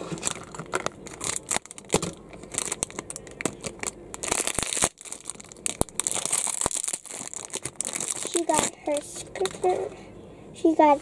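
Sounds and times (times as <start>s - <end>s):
plastic foil bag crinkling: 0.0s - 9.7s.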